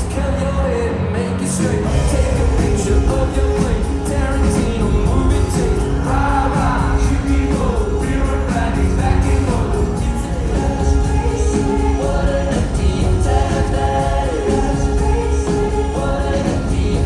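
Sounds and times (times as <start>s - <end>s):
person singing: 0.0s - 17.0s
live rock band playing: 1.4s - 17.0s.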